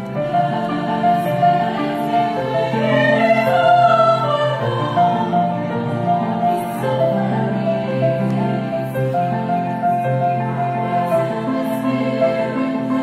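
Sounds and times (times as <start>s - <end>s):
girls' choir singing in harmony: 0.0s - 13.0s.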